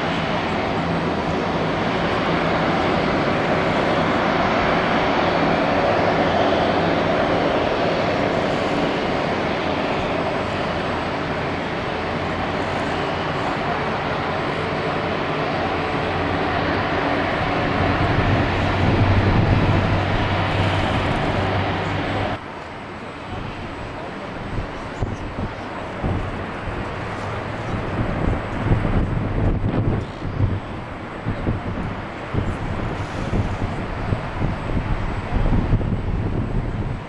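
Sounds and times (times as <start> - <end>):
jet engines running loud: 0.0 - 37.0.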